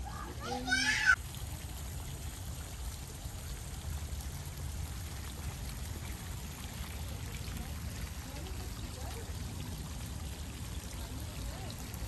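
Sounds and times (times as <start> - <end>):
water pouring into pond: 0.0 - 12.0.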